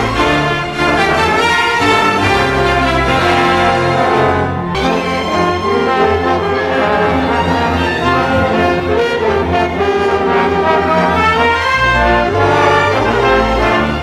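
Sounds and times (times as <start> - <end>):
orchestral music with brass: 0.0 - 14.0.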